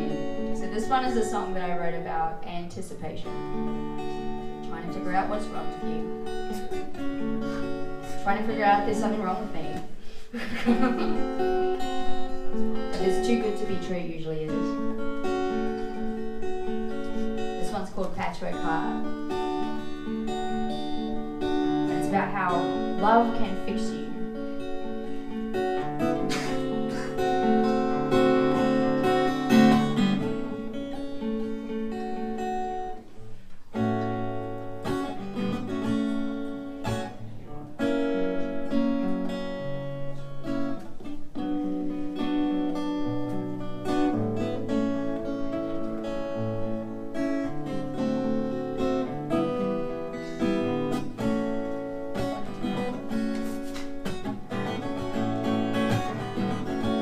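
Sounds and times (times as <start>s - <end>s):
acoustic guitar playing chords: 0.0s - 57.0s.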